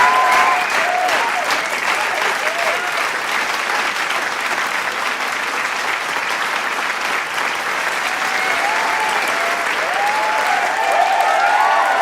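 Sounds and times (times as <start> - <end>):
people cheering: 0.0 - 4.2, 5.0 - 12.0
crowd applauding: 0.0 - 12.0.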